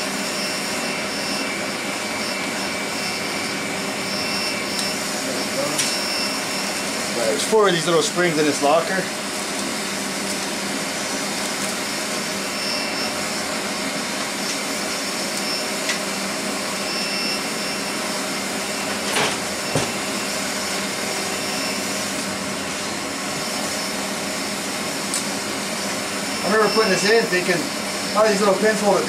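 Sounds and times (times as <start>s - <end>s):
fan whirring drone: 0.0s - 29.0s.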